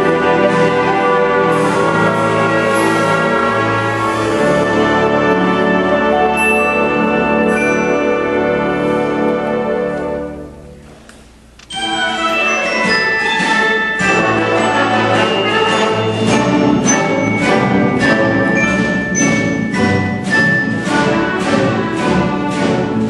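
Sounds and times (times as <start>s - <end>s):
symphony orchestra playing: 0.0s - 10.8s, 11.7s - 23.0s.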